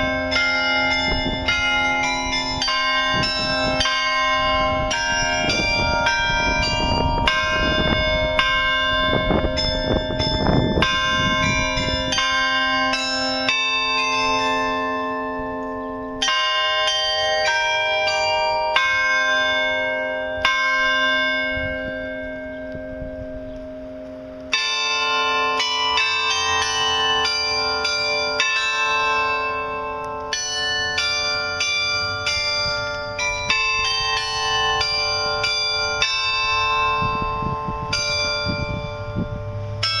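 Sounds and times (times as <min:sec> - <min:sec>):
carillon bells playing a tune: 0:00.0 - 0:40.0.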